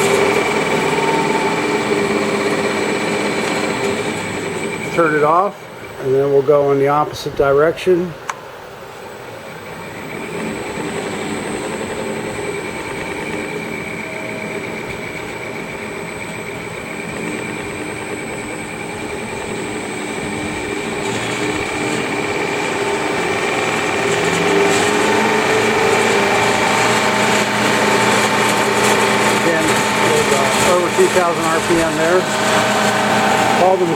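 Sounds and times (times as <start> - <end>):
drill press running: 0.0 - 6.0, 9.5 - 33.9.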